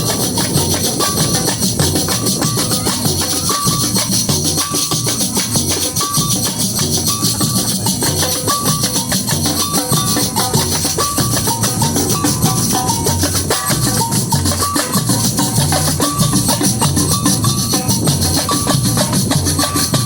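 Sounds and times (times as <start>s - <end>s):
deep bass drum beats: 0.0s - 20.0s
shakers and high percussion rattling: 0.0s - 20.0s.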